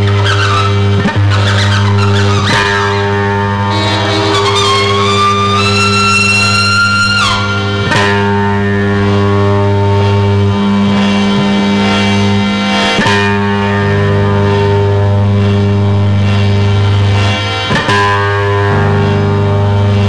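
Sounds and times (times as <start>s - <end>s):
harmonium bass and saxophone music: 0.0s - 17.4s.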